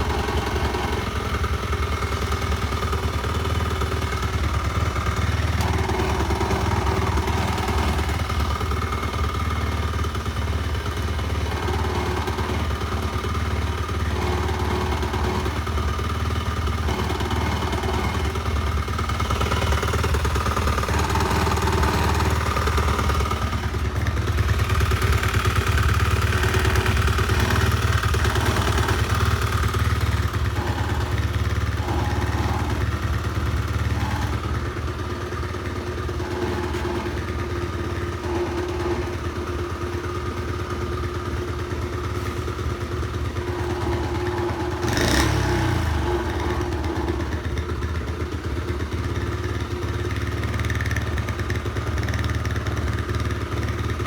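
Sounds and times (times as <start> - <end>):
small motorcycle engine running: 0.0 - 54.0.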